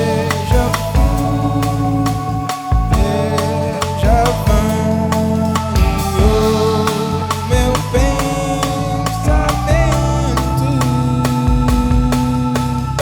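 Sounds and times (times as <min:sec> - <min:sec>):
drum kit beat: 0:00.0 - 0:13.0
guitar: 0:00.0 - 0:13.0
keyboard and synthesizer chords: 0:00.0 - 0:13.0
person singing: 0:00.0 - 0:13.0.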